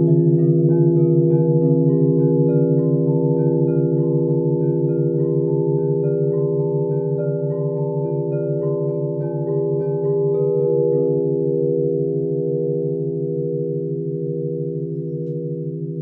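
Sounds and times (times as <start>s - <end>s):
singing bowls ringing: 0.0s - 16.0s.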